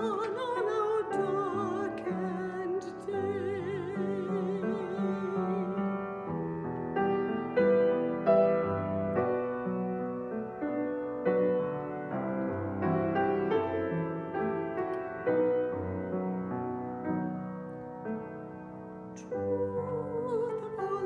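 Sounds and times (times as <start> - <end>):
piano playing chords: 0.0 - 21.0.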